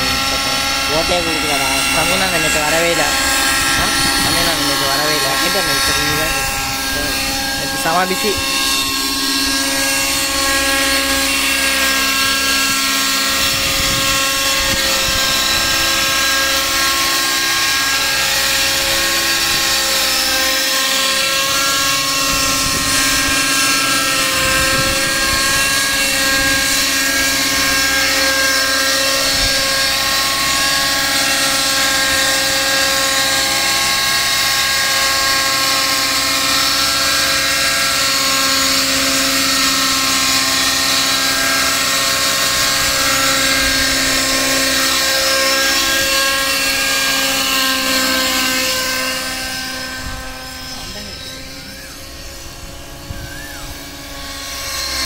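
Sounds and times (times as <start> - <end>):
model helicopter engine and rotor: 0.0 - 55.0.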